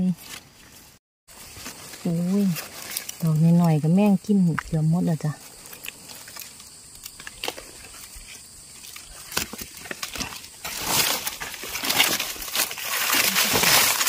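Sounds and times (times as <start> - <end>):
dry leaves rustling and crunching: 0.1 - 14.0.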